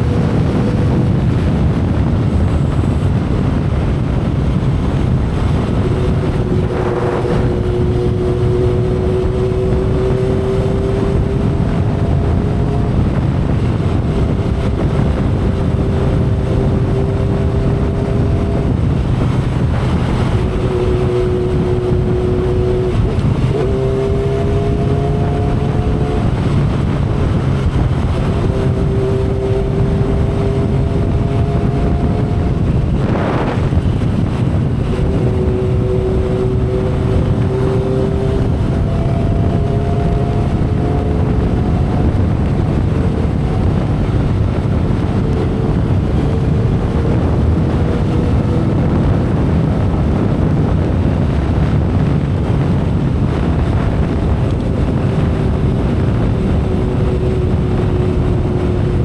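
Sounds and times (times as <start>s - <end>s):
motorcycle engine cruising: 0.0s - 59.0s
wind and road rush: 0.0s - 59.0s.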